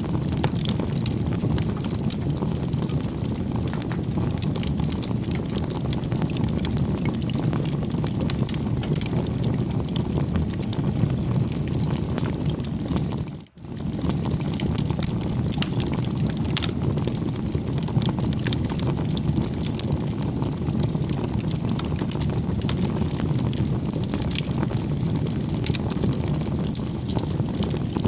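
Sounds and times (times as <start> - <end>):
campfire flames rushing: 0.0 - 28.0
fire crackles and pops: 0.0 - 28.0.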